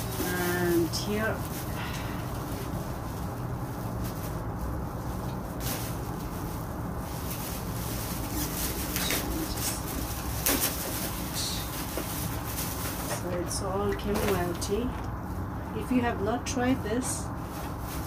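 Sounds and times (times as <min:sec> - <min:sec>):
plastic bag rustling: 0:00.0 - 0:18.0
steady low hum: 0:00.0 - 0:18.0.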